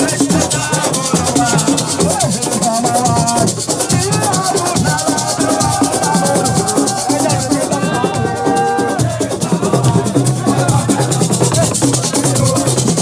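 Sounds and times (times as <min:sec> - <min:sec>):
group singing: 0:00.0 - 0:13.0
shaker and drum percussion: 0:00.0 - 0:13.0.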